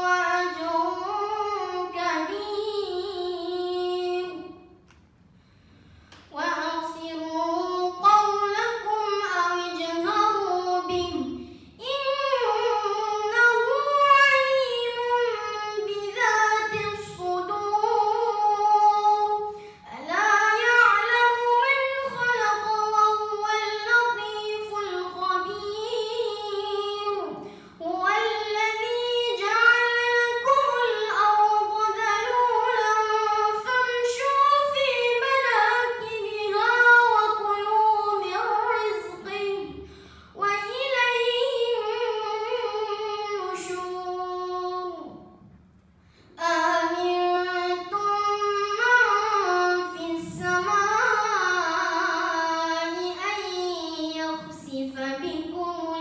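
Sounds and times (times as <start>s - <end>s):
boy chanting melodic recitation: 0.0s - 4.7s, 6.3s - 39.8s, 40.4s - 45.3s, 46.4s - 56.0s.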